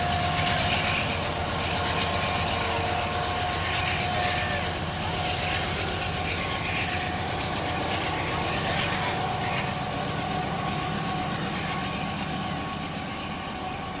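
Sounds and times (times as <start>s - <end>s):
diesel locomotive engine drone: 0.0s - 14.0s
steady whine: 0.0s - 14.0s.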